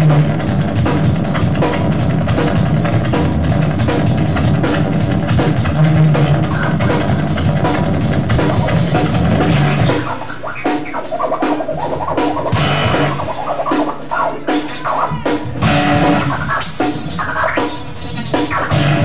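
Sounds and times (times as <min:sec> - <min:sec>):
electric guitar: 0:00.0 - 0:19.0
heavy bass: 0:00.0 - 0:19.0
pounding drum kit: 0:00.0 - 0:19.0
rock band playing: 0:00.0 - 0:19.0.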